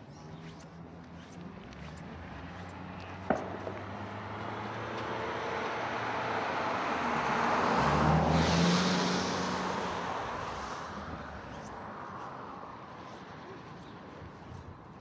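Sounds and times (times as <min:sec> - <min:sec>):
car passing by: 0:01.2 - 0:14.4.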